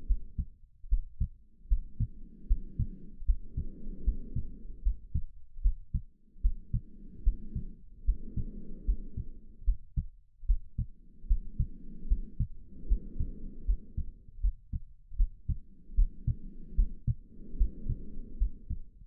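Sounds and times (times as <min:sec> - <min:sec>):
heartbeat thumps: 0:00.0 - 0:19.0
slow breathing: 0:00.0 - 0:19.0.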